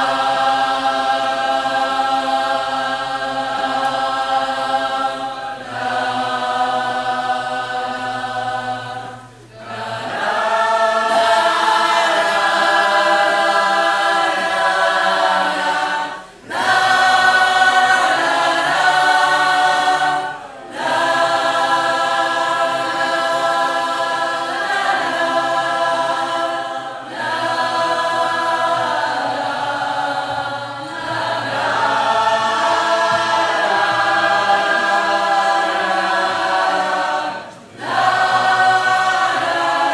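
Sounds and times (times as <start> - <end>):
choir singing held chords: 0.0 - 39.9.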